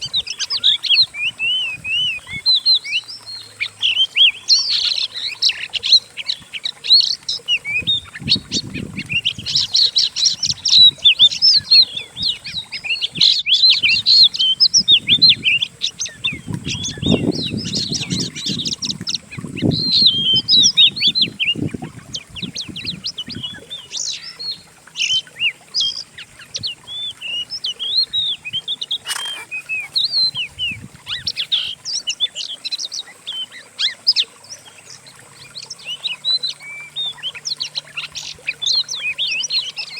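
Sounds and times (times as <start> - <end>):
layered songbird songs: 0.0 - 39.9.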